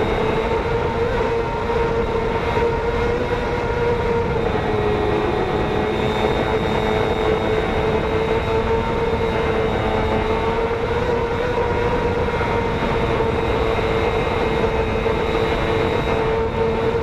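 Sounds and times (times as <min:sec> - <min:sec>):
racing motorcycle engine: 0:00.0 - 0:17.0
wind and road rush: 0:00.0 - 0:17.0.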